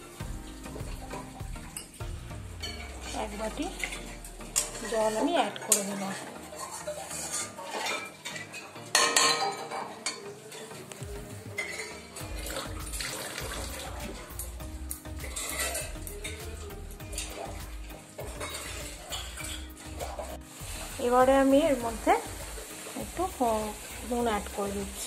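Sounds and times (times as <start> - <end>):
water pouring: 0.0 - 25.0
metal spatula scraping in pan: 0.6 - 14.4, 15.1 - 16.5, 17.1 - 25.0.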